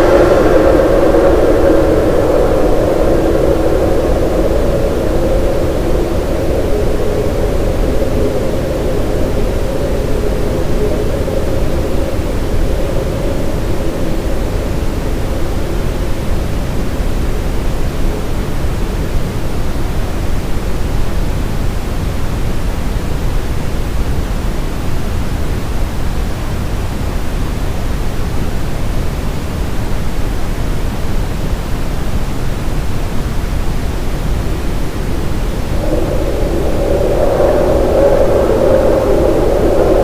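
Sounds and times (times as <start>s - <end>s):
brown noise rumbling hiss: 0.0s - 40.0s.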